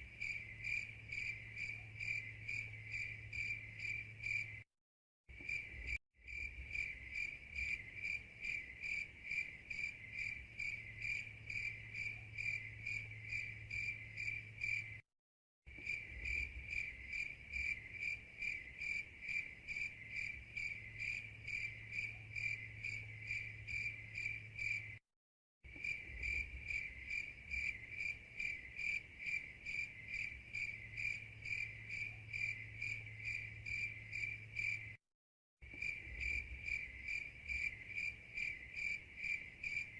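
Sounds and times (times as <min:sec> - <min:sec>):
crickets chirping: 0:00.0 - 0:04.6, 0:05.3 - 0:15.0, 0:15.7 - 0:25.0, 0:25.7 - 0:35.0, 0:35.6 - 0:39.9.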